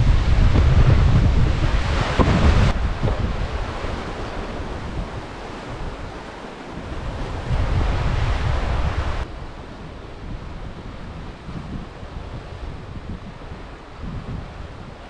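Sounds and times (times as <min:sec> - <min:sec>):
surf on the shore: 0:00.0 - 0:15.0
wind buffeting microphone: 0:00.0 - 0:15.0.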